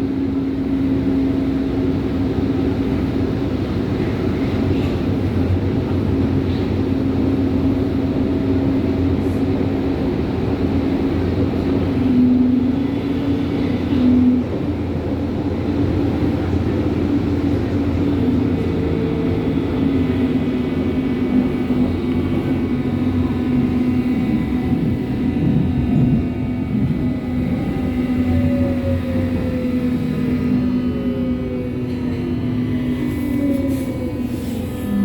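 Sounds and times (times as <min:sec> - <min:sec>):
faint motor whine: 0:00.0 - 0:35.0
subway train rumbling: 0:00.0 - 0:35.0.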